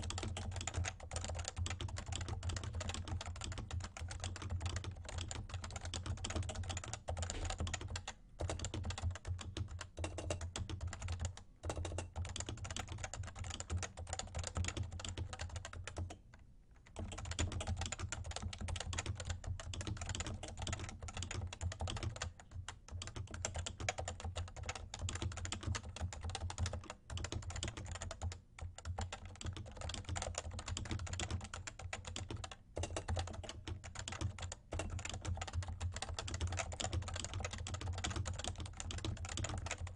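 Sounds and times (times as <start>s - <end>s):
fast typing on keyboard: 0.0s - 16.2s, 16.8s - 39.9s.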